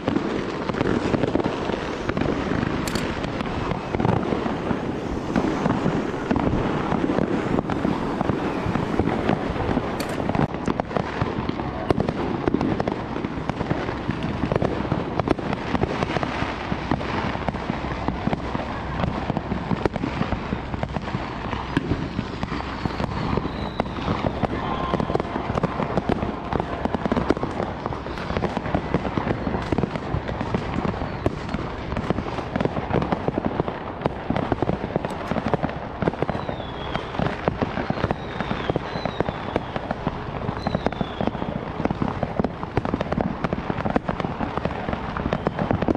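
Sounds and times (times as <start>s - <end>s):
firecrackers crackling bangs: 0.0s - 45.9s.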